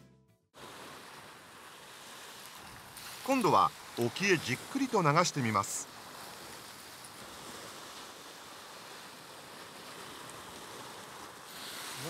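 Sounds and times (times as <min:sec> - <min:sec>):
sea waves breaking on rocks: 0:00.6 - 0:12.0.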